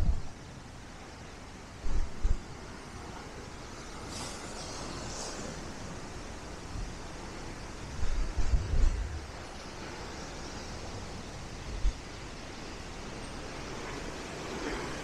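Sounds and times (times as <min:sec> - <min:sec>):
surf and wind: 0:00.0 - 0:15.0
wind buffeting microphone: 0:00.0 - 0:15.0.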